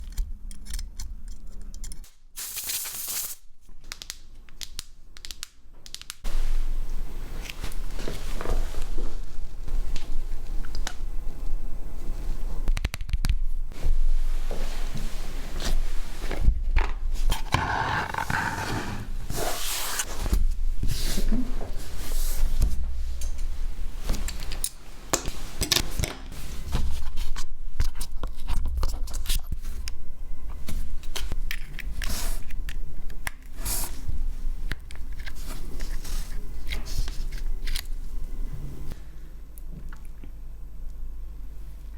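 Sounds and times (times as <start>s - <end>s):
low steady hum: 6.2s - 41.9s.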